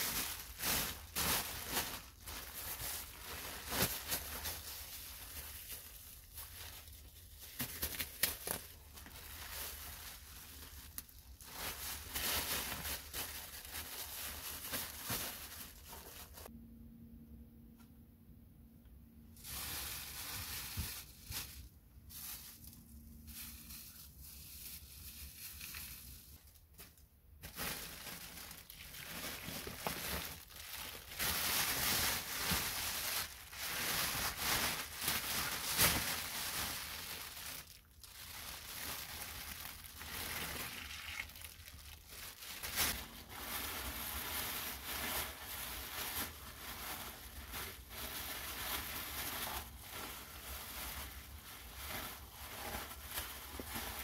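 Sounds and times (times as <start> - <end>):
plastic bag crinkling: 0.0 - 16.5, 19.4 - 54.0.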